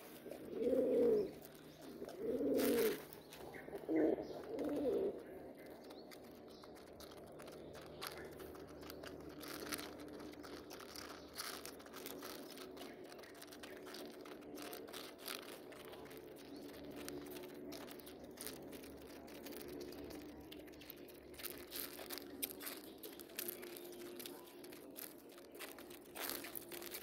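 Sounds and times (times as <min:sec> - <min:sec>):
beaks clicking on pellets and dish: 0:00.0 - 0:27.0.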